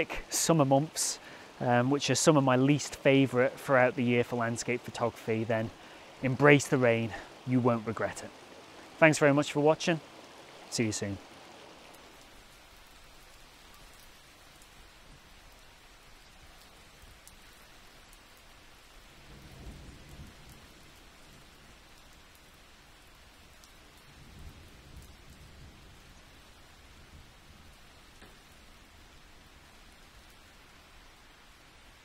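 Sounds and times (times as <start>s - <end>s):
faint steady rain: 0.0s - 32.0s.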